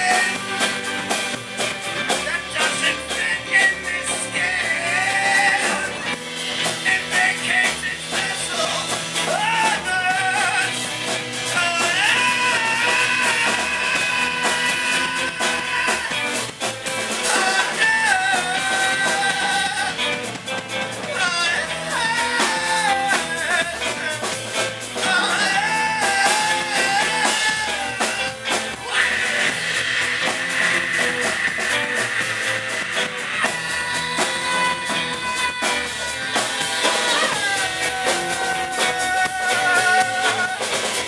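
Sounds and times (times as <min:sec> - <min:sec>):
live rock band playing: 0:00.0 - 0:41.0
sliding lead melody: 0:00.0 - 0:41.0.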